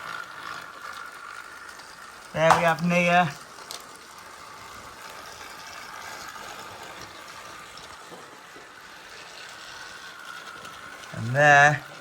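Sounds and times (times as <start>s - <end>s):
toy train motors whirring: 0.0s - 12.0s.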